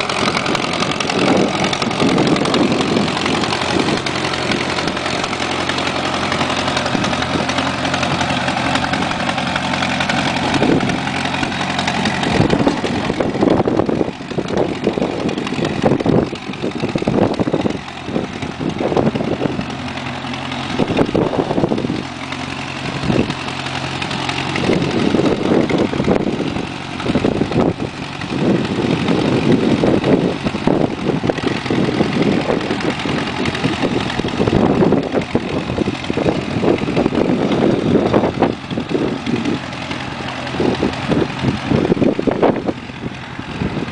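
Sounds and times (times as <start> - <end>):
garden tractor engine running: 0.0 - 43.9.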